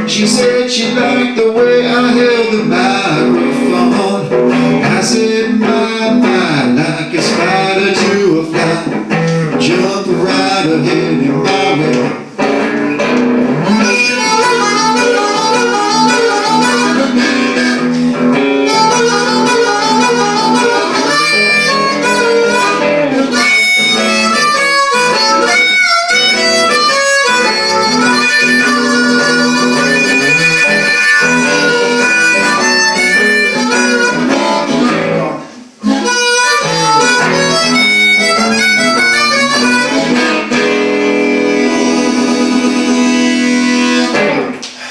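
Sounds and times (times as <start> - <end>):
blues harmonica solo: 0.0 - 44.9
electric guitar lead lines: 0.0 - 44.9
guitar backing: 0.0 - 44.9.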